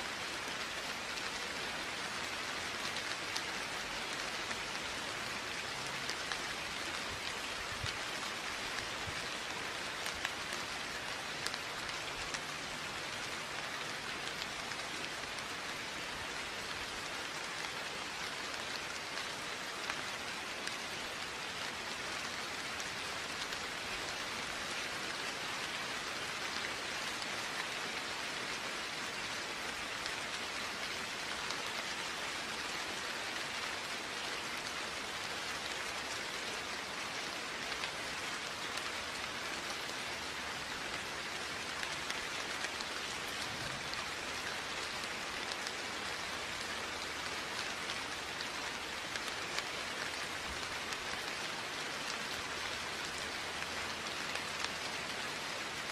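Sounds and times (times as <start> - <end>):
raindrops pattering on surfaces: 0.0 - 55.9
steady rain: 0.0 - 55.9.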